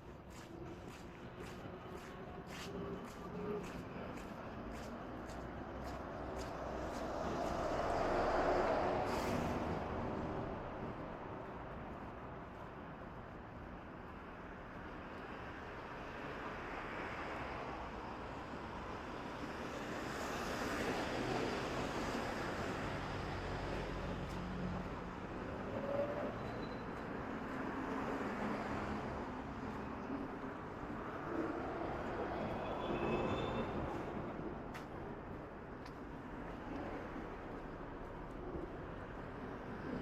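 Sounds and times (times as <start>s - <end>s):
vehicles passing: 0.0s - 17.6s, 19.4s - 40.0s
road noise hum: 0.0s - 40.0s.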